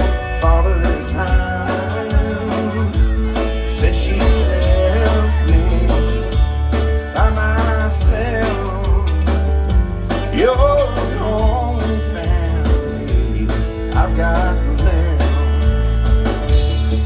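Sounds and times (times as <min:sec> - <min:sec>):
country band playing: 0:00.0 - 0:17.0
fiddle melody: 0:00.0 - 0:17.0.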